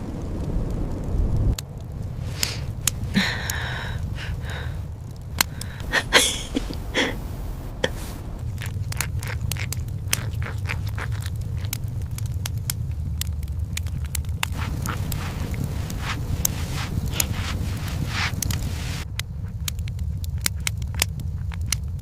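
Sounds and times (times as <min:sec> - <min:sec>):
low rumble: 0:00.0 - 0:21.5
sharp clicks and crackles: 0:00.1 - 0:05.9, 0:07.8 - 0:22.0.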